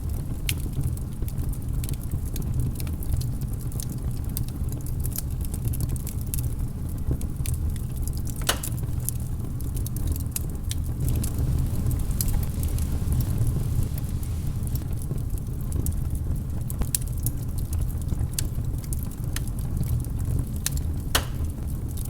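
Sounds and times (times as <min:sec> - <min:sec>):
logs crackling in fireplace: 0:00.0 - 0:22.0.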